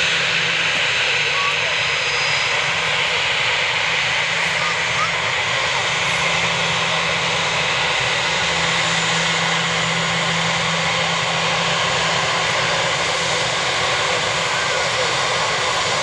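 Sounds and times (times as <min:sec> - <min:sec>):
jet engine high whine: 0:00.0 - 0:16.0
jet engines rushing: 0:00.0 - 0:16.0.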